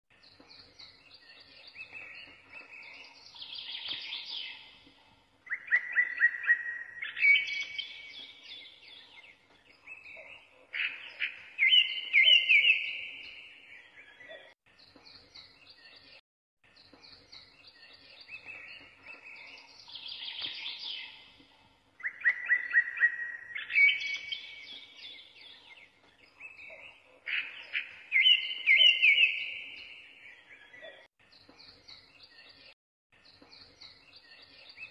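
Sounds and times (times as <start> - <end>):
bird chirps and trills: 0.1 - 34.9.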